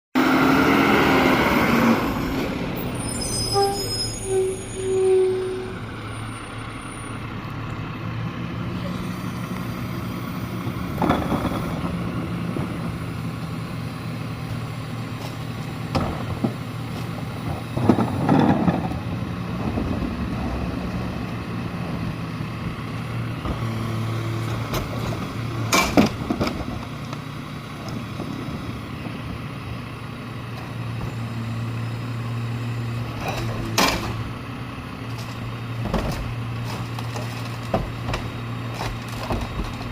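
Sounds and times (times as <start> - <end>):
garbage truck diesel engine: 0.2 - 39.9.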